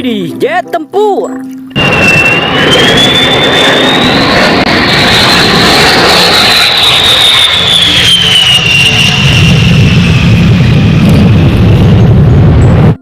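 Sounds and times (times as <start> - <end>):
high jet whine: 0.0 - 13.0
jet engine roar: 1.6 - 13.0.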